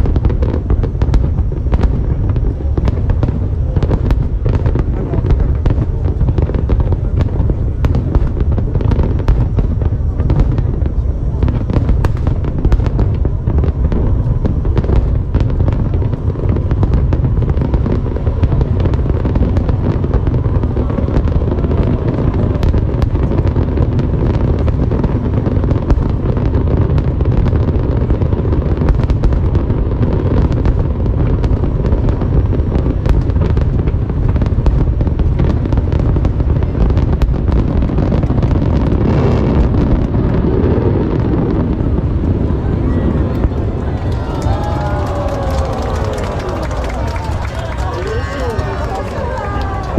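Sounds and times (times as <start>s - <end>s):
fireworks bangs and crackling: 0.0s - 49.9s
heavy low rumble: 0.0s - 49.9s.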